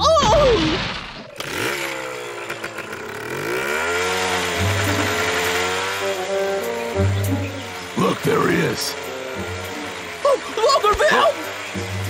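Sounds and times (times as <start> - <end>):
chainsaw engine running: 1.3 - 12.0.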